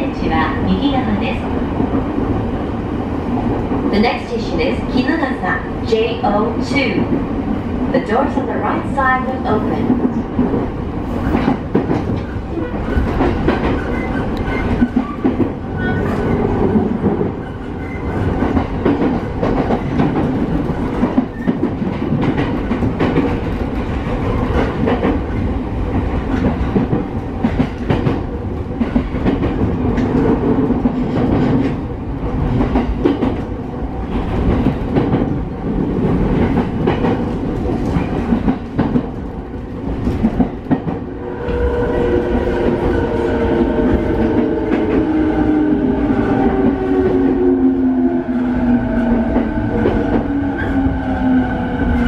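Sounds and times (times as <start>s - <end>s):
train cabin rumble: 0.0s - 52.0s.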